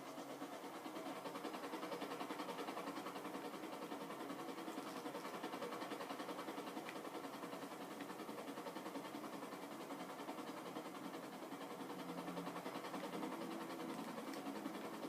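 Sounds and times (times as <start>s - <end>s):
helicopter drone and flutter: 0.0s - 15.0s.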